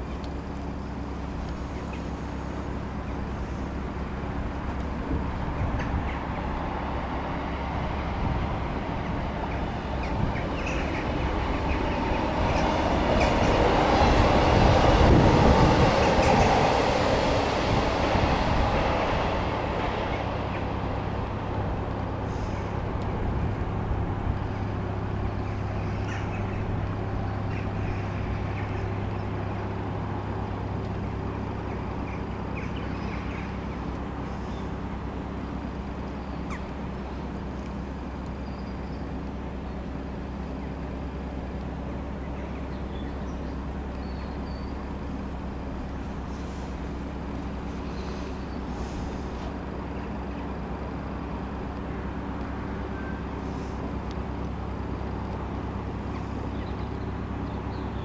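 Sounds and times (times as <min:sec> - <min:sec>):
diesel boat engine hum: 0:00.0 - 0:58.0
train rumbling over viaduct: 0:00.0 - 0:58.0.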